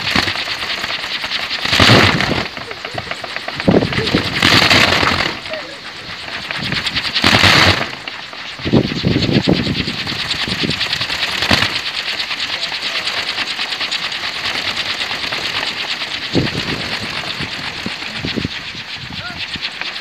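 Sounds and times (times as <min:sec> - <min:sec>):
wind propeller rattling whirr: 0:00.0 - 0:20.0.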